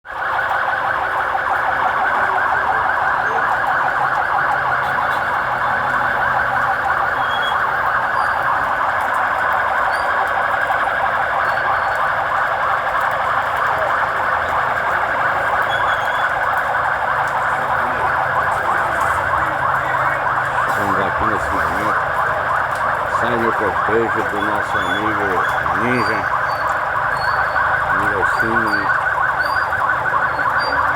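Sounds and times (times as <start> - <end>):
sirens warbling wail: 0.1 - 30.9.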